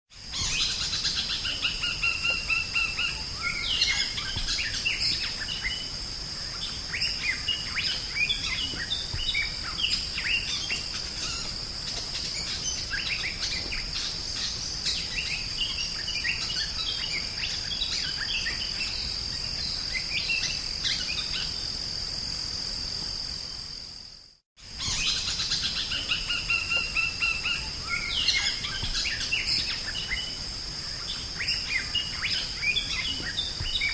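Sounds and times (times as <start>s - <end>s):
bird singing whistles and chirps: 0.2s - 21.6s, 24.7s - 33.9s.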